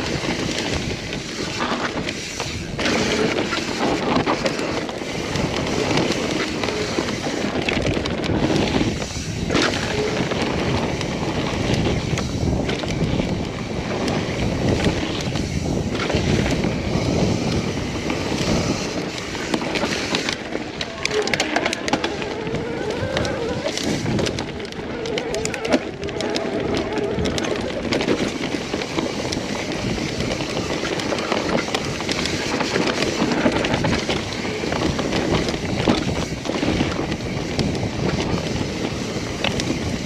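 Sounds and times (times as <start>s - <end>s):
bike rattling and clicking: 0.0s - 40.0s
bike tyres rolling over dirt: 0.0s - 40.0s
wind on the microphone: 0.0s - 40.0s.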